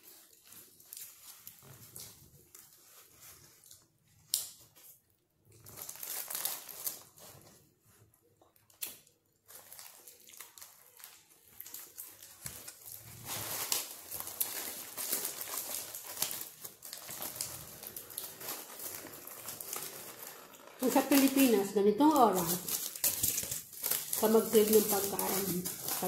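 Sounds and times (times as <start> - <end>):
paper and foil crinkling: 0.0 - 26.0.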